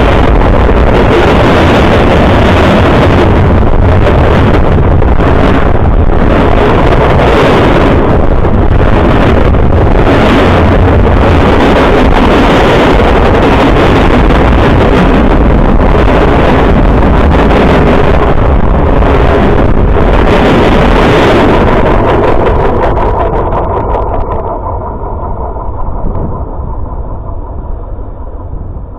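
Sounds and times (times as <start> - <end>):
freight train wheels rumbling on rail: 0.0 - 28.9
wind buffeting microphone: 0.0 - 28.9.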